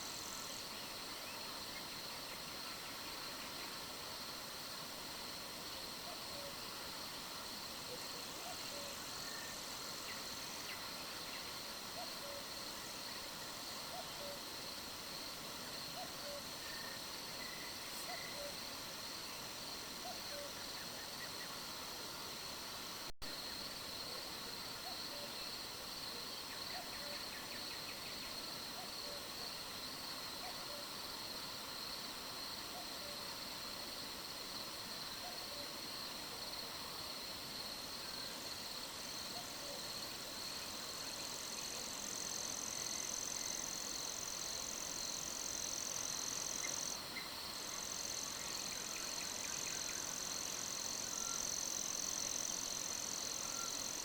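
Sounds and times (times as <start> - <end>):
high insect trill: 0.0 - 54.0.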